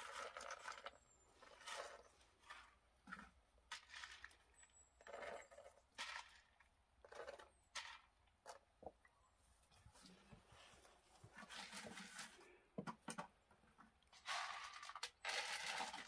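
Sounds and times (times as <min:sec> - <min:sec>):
plastic tub rustling and scraping: 0:00.0 - 0:08.6, 0:09.9 - 0:13.3, 0:14.1 - 0:16.0.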